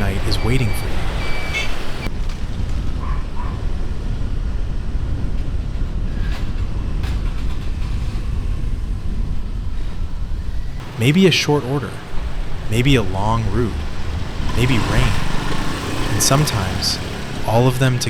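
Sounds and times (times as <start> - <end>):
motorbike traffic rumble: 0.0 - 18.0.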